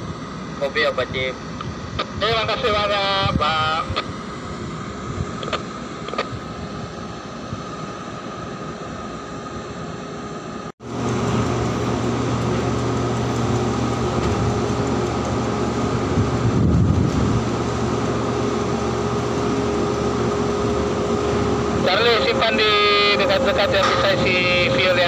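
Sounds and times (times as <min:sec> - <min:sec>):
diesel machinery droning: 0:00.0 - 0:25.0.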